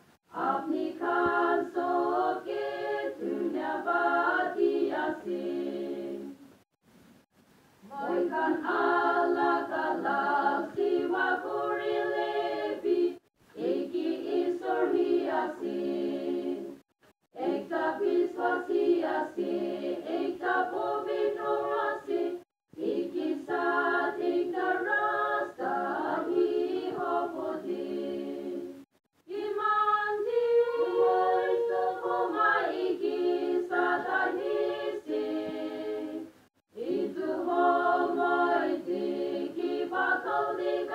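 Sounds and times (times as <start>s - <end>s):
women's choir singing: 0.3s - 6.4s, 7.8s - 16.8s, 17.4s - 40.9s.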